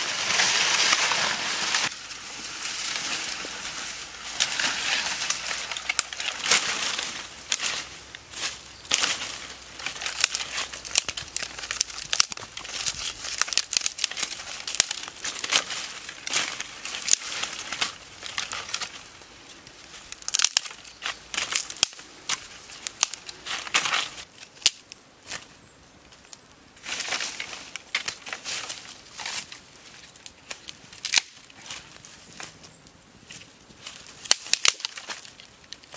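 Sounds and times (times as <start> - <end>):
dry sticks crackling and snapping: 0.1 - 35.9.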